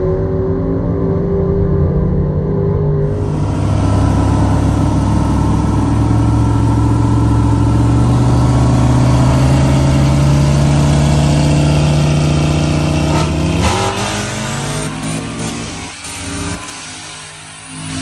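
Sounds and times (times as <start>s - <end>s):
truck engine pulling under load: 3.1s - 18.0s.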